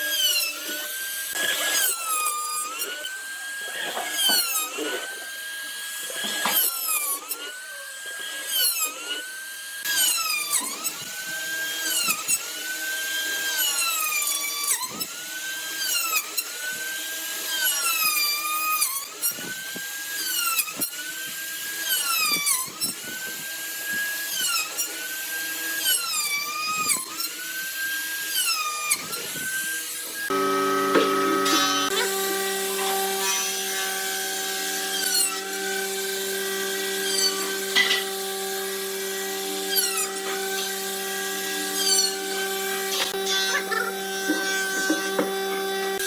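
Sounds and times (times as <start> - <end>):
power drill whining: 0.0 - 46.0.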